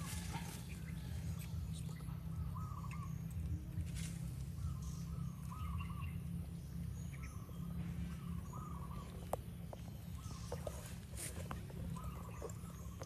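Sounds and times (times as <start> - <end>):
bird calling: 0.0 - 13.0
steady low rumble: 0.0 - 13.0.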